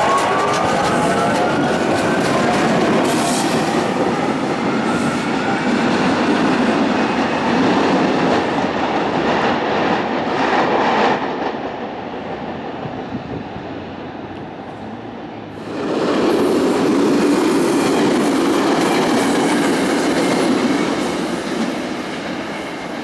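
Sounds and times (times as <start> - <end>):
train wheels clattering on rails: 0.0 - 11.8, 14.6 - 23.0.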